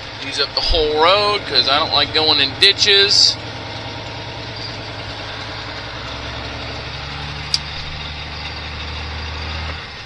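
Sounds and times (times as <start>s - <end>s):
diesel truck engine drone: 0.0s - 10.0s.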